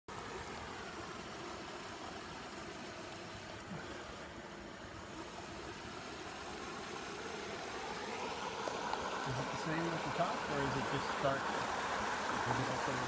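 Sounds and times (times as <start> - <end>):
stream running over stones: 0.1 - 13.0.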